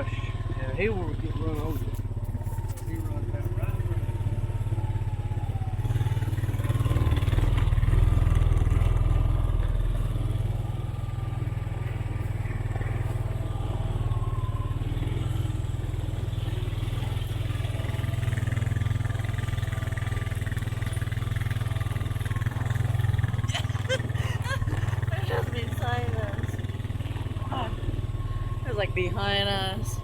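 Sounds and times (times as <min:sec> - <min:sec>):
four-wheeler engine running: 0:00.0 - 0:30.0.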